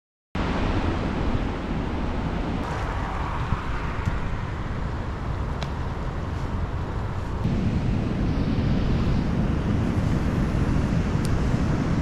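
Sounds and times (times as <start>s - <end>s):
river rushing: 0.4s - 12.0s
wind buffeting microphone: 0.4s - 12.0s.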